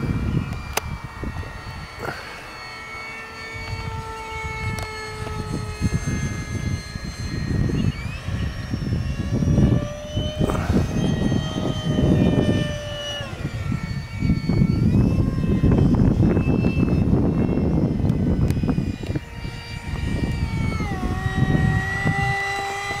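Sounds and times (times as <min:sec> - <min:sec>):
electric ducted fan whine: 0:00.0 - 0:23.0
wind buffeting microphone: 0:00.0 - 0:23.0.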